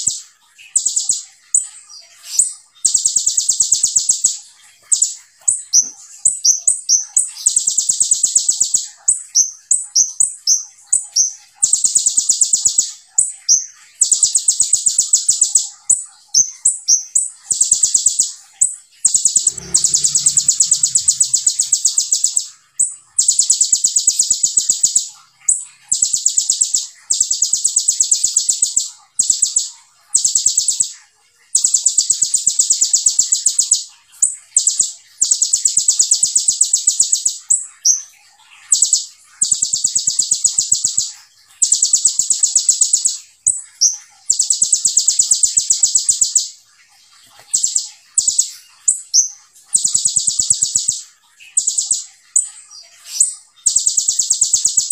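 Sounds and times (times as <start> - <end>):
bird singing rapid high notes: 0.0 - 54.9.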